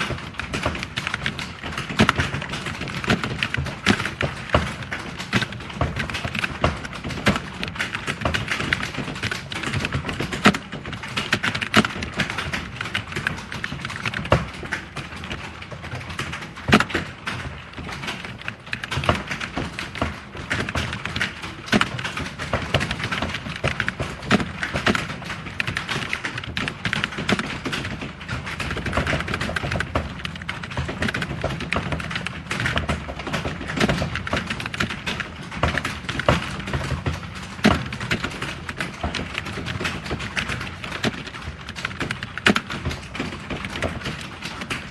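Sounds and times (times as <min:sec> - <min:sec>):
typing on computer keyboard: 0:00.0 - 0:44.9.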